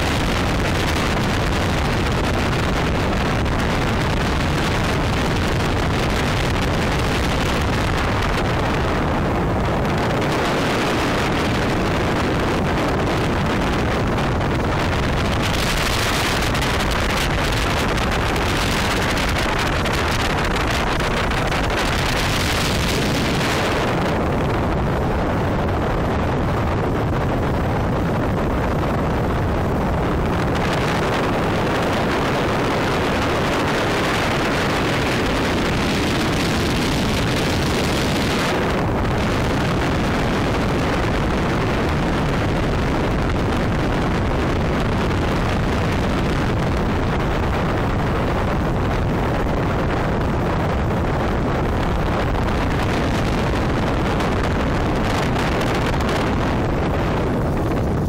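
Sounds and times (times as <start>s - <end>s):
boat engine and spray noise: 0.0s - 58.0s
wind on microphone: 0.0s - 58.0s.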